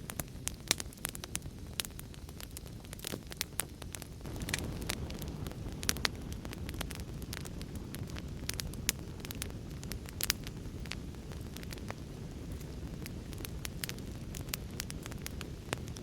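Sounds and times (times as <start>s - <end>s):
fire popping and snapping: 0.0s - 16.0s
wood fire crackling: 0.0s - 16.0s.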